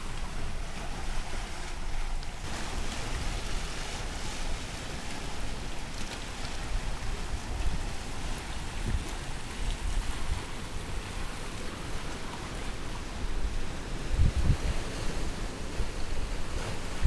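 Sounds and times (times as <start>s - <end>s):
ocean surf rushing: 0.0s - 17.0s.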